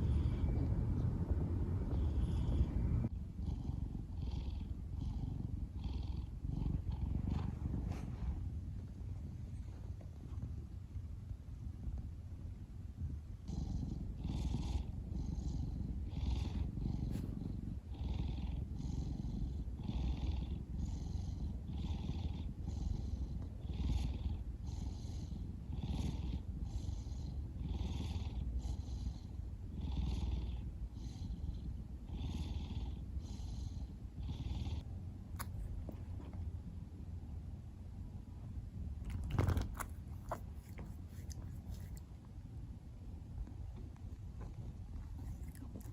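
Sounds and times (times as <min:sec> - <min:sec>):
cat purring: 0:00.0 - 0:37.6, 0:38.8 - 0:45.9.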